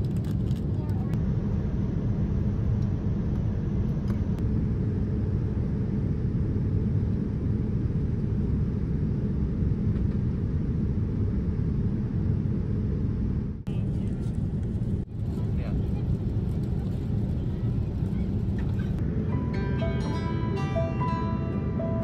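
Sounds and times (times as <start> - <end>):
jet cabin engine rumble: 0.0 - 22.0.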